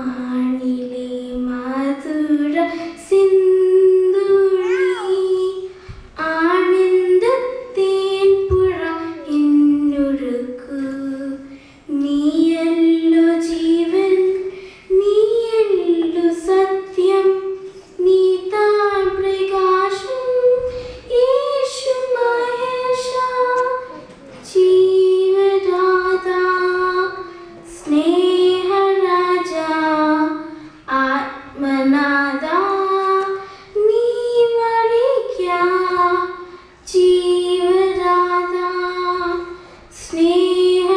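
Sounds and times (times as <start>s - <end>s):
girl singing unaccompanied: 0.0s - 40.9s.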